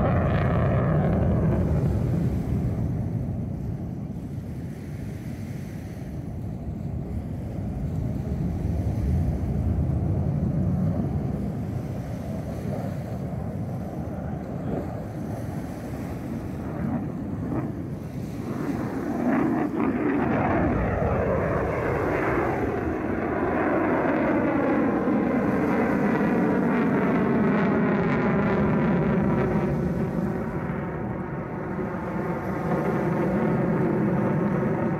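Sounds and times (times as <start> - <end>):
jet flying overhead: 0.0 - 34.9.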